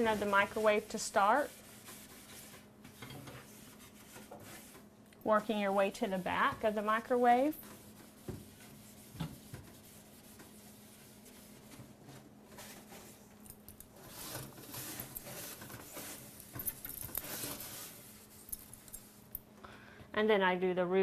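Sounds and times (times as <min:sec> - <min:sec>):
sponge scrubbing microwave walls: 0:00.0 - 0:19.3.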